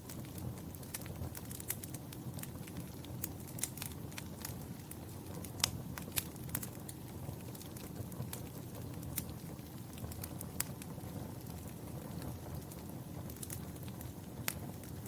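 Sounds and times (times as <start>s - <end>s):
sharp pops of burning logs: 0.0s - 15.0s
wood fire crackling: 0.0s - 15.0s.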